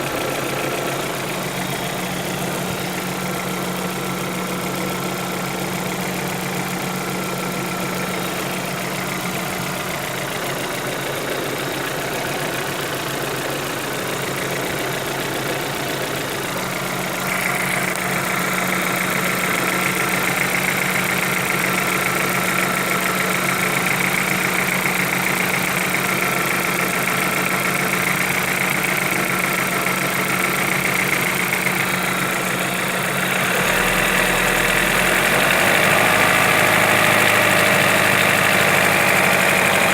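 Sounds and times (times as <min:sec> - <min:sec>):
engine idling with knock: 0:00.0 - 0:39.9.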